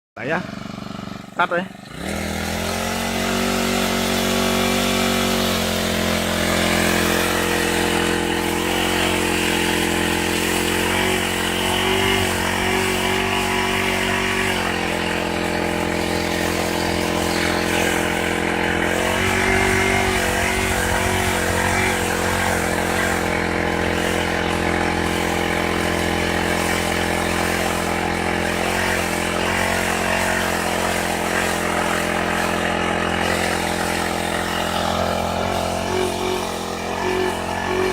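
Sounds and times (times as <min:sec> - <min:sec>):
brush cutter engine running: 0:00.2 - 0:37.9.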